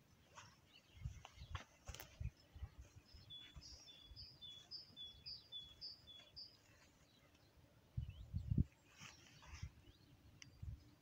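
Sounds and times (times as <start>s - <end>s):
faint bird song: 0.0s - 11.0s.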